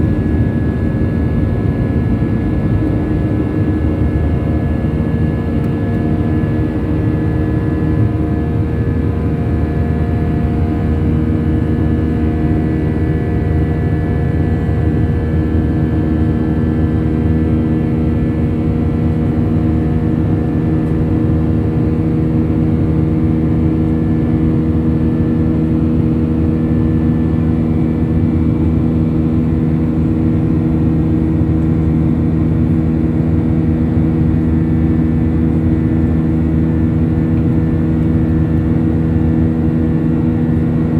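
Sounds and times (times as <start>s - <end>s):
jet engines heard from cabin: 0.0s - 40.9s.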